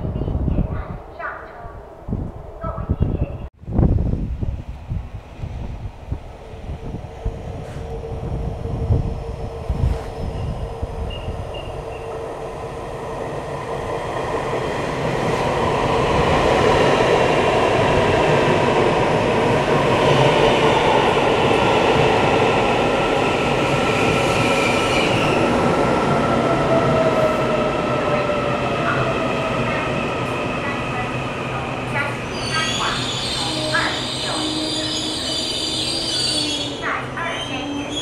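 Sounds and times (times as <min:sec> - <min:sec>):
train wheel and motor noise: 0:04.1 - 0:38.0.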